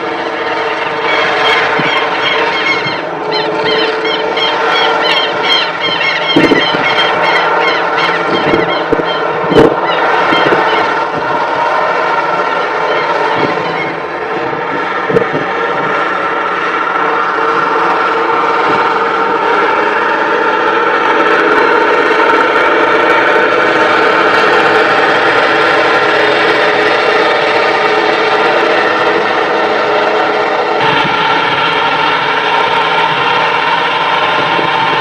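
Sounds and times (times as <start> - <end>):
farm machinery engine running: 0.0 - 35.0.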